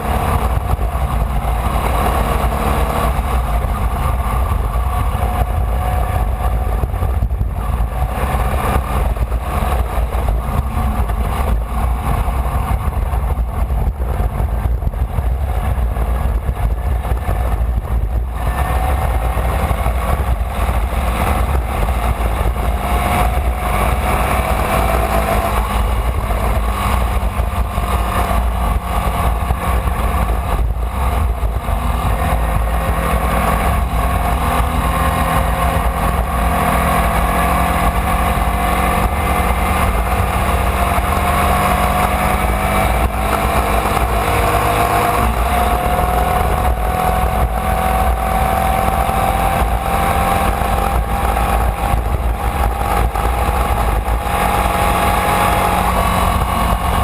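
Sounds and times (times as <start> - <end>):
racing car engine running hard: 0.0 - 57.0.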